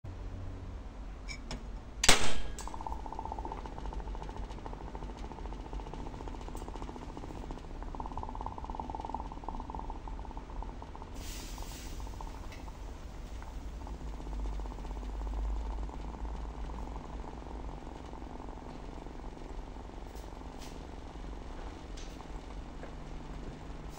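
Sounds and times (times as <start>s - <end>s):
egg sizzling and crackling: 2.6s - 23.9s.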